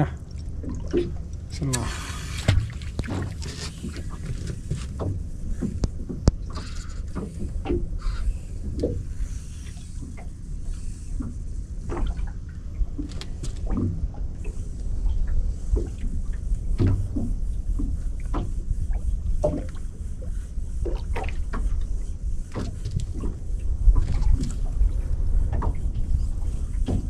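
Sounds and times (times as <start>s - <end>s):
water splashing against boat hull: 0.0s - 27.0s
wind rumble on microphone: 0.0s - 27.0s.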